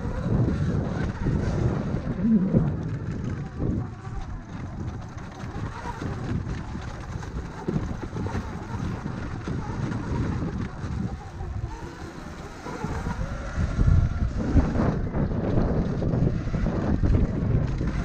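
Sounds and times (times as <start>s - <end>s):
dirt bike ride noise: 0.0s - 18.0s
wind on microphone: 0.0s - 18.0s.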